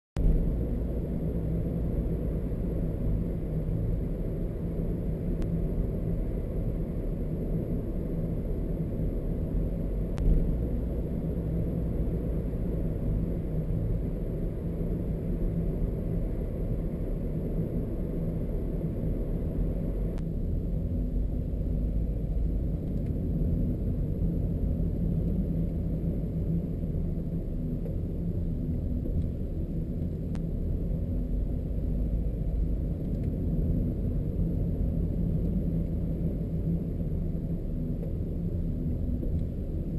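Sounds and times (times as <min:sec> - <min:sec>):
car engine and road rumble: 0:00.2 - 0:39.9.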